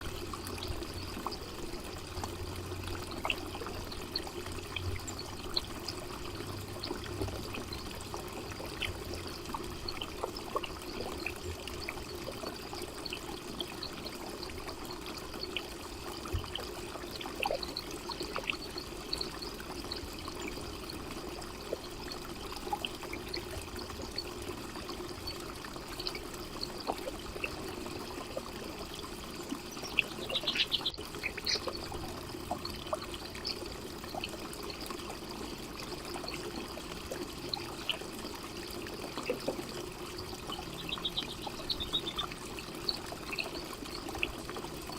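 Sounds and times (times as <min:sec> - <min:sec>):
fountain trickling and splashing: 0:00.0 - 0:44.9
water drips: 0:00.0 - 0:44.9.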